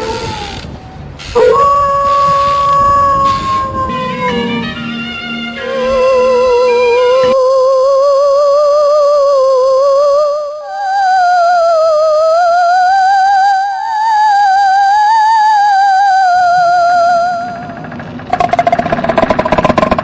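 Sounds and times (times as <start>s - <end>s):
eerie ghost wail: 0.0s - 20.0s.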